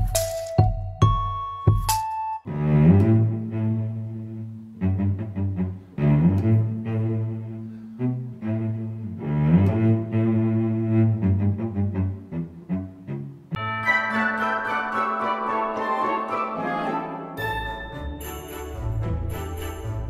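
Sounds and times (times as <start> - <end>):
slow bowed string music: 2.5 - 20.0.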